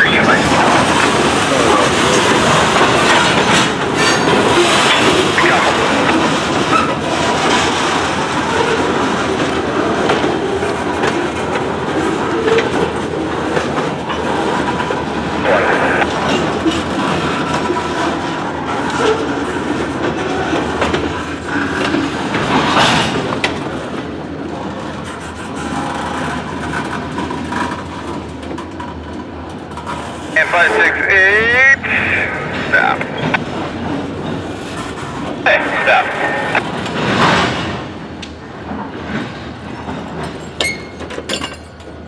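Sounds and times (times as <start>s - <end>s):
train wheels clattering over rail joints: 0.1s - 30.4s, 32.4s - 35.4s, 36.6s - 42.0s.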